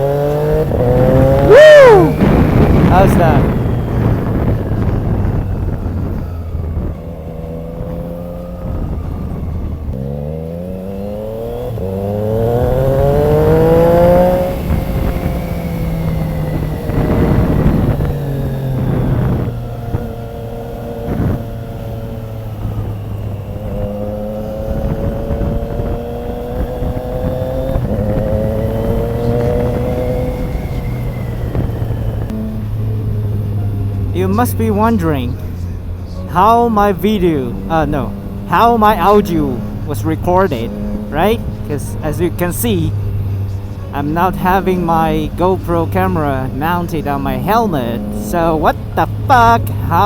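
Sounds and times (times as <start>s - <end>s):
motorcycle engine revving: 0.0s - 50.0s
road and wind noise: 0.0s - 50.0s.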